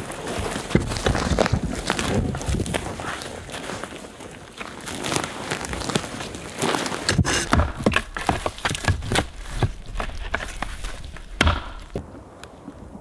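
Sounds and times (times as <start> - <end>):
dry branches cracking and snapping: 0.0 - 12.0.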